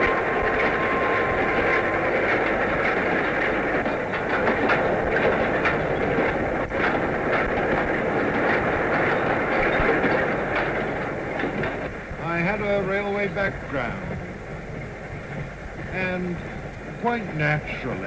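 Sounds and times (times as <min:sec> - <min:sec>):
steam train rumbling: 0:00.0 - 0:18.0
wheels clicking over rail joints: 0:00.0 - 0:18.0.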